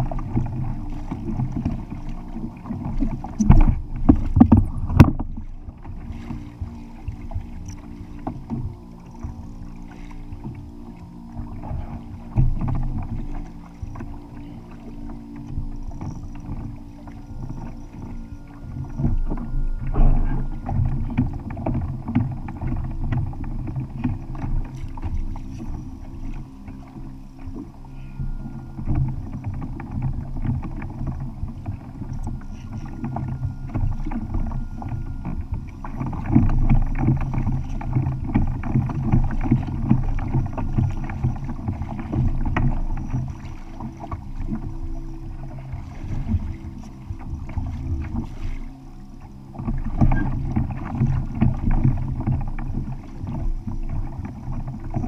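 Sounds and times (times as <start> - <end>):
steady low hum: 0.0 - 55.0
water sloshing against hull: 0.0 - 55.0.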